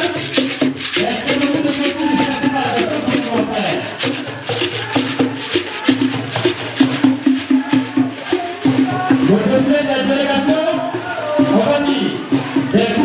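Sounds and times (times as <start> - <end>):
shakers keeping fast beat: 0.0 - 13.0.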